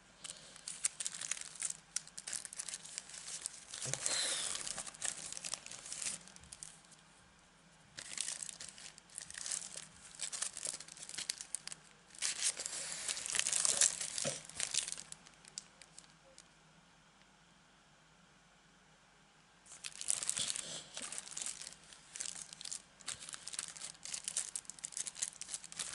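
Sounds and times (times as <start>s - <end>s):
plastic packaging crinkling: 0.2s - 7.0s, 7.9s - 16.4s, 19.7s - 25.9s.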